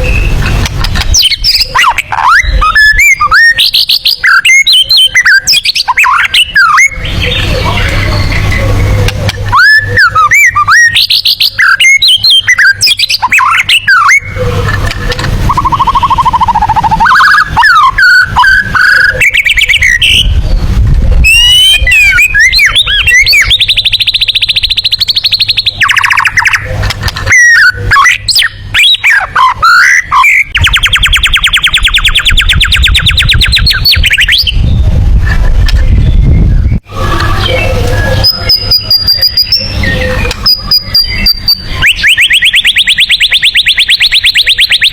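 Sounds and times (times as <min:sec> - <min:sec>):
songbird whistles and chattering: 0:00.0 - 0:44.9
very rapid bird trills: 0:00.0 - 0:44.9.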